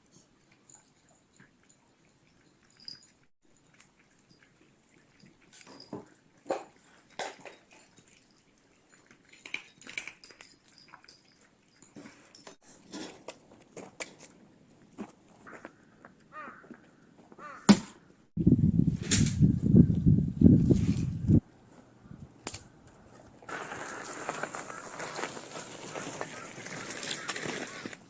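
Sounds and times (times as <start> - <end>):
cats chewing and crunching food: 0.0 - 16.3, 21.4 - 28.0.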